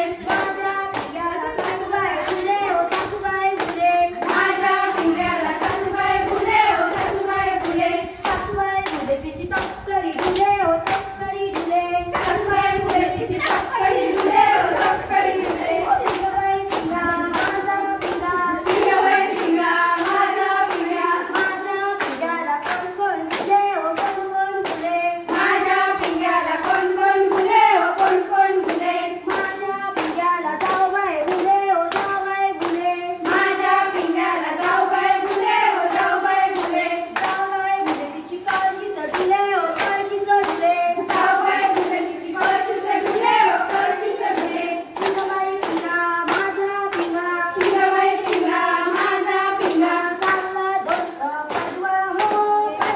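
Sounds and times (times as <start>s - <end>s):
hand claps: 0.0s - 52.9s
women singing folk song: 0.0s - 52.9s.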